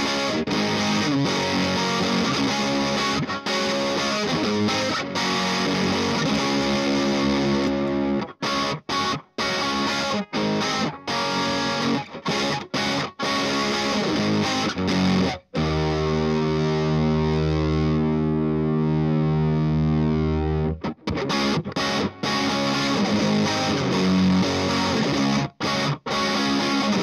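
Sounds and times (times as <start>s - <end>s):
distorted electric guitar chords: 0.0s - 27.0s.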